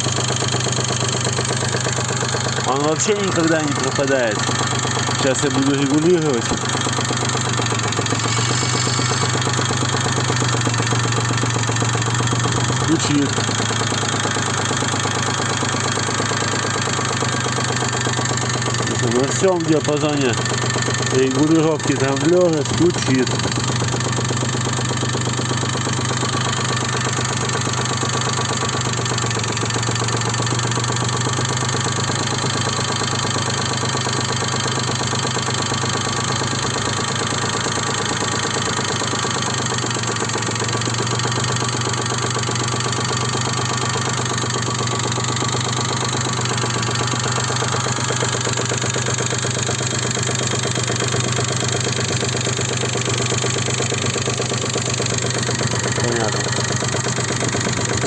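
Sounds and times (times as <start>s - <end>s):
car engine idling with knock: 0.0s - 58.0s.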